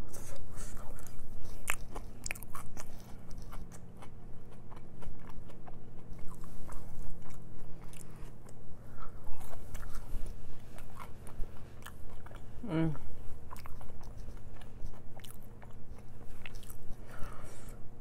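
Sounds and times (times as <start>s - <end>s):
chewing crunchy fries: 0.0s - 18.0s.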